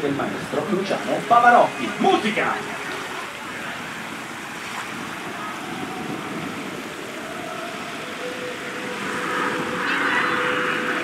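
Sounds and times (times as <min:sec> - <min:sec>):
distant jets passing: 0:00.0 - 0:11.0
faint jet engine whine: 0:00.0 - 0:11.0.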